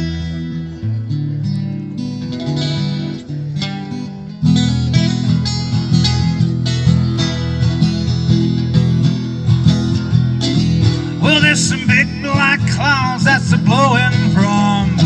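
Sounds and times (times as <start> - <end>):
bass line: 0.0 - 3.2, 4.4 - 15.0
country band playing: 0.0 - 15.0
strummed guitar: 0.0 - 15.0.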